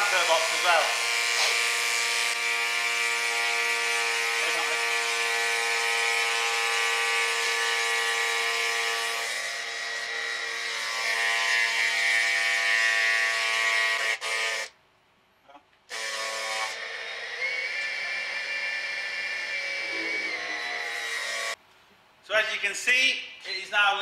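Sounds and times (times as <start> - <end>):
electric pump buzzing whine: 0.0 - 14.7, 15.9 - 21.6.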